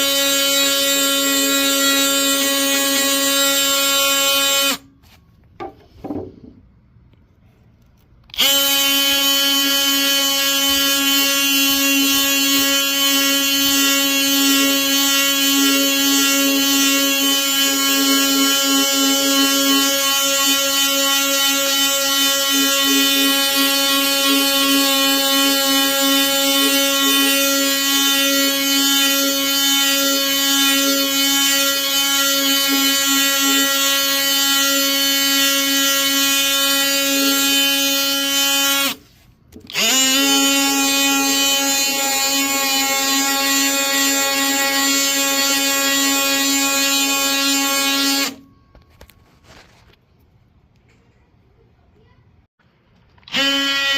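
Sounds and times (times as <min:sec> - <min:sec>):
oscillating multi-tool sanding wood: 0:00.0 - 0:04.8, 0:08.4 - 0:48.4.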